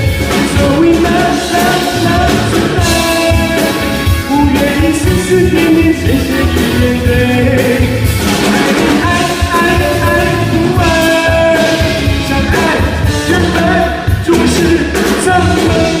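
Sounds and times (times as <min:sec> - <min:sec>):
band playing pop-rock song: 0:00.0 - 0:16.0
person singing long notes: 0:00.0 - 0:16.0.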